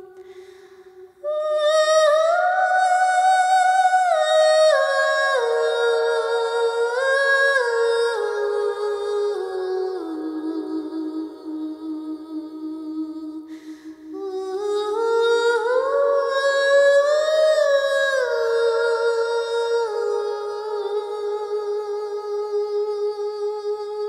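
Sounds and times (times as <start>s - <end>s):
slow wordless humming melody: 0.0s - 24.0s.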